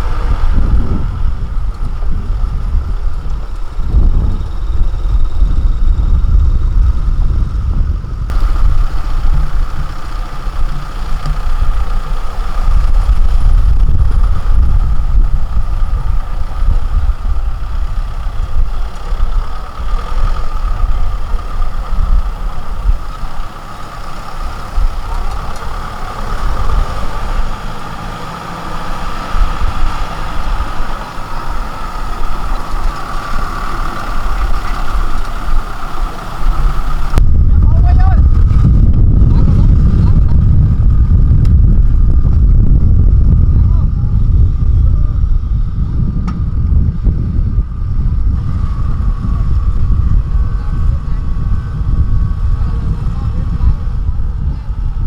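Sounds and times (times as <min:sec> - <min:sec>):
diesel engine rumbling: 0:00.0 - 0:55.0.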